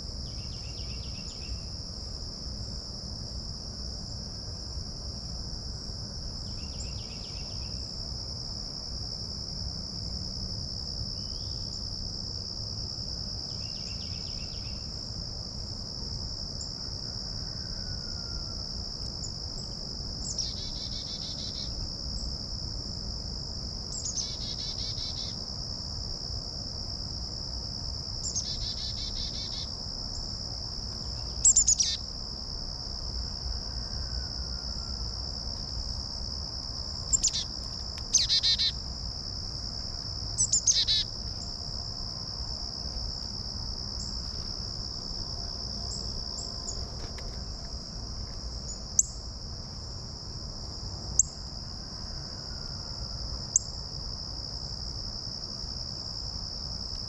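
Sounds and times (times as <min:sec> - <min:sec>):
insect trill: 0:00.0 - 0:57.0.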